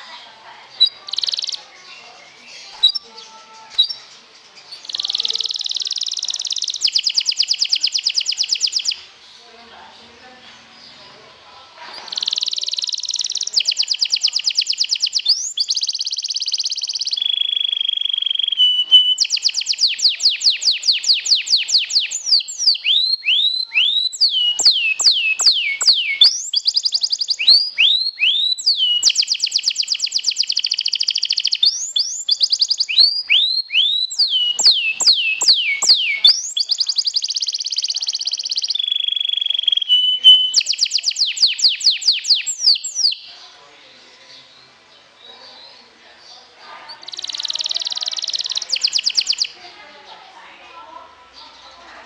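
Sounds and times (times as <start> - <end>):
canary singing: 0.0 - 52.0.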